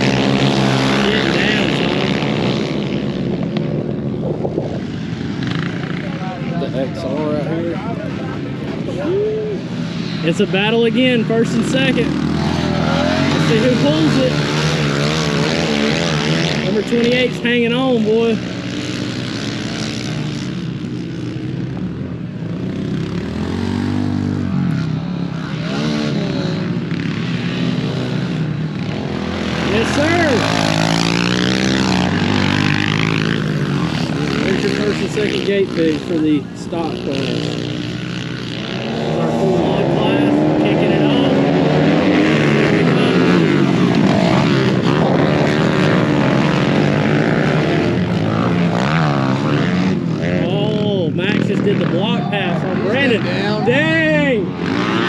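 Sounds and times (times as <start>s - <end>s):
small motorcycle engines revving: 0.0s - 55.0s.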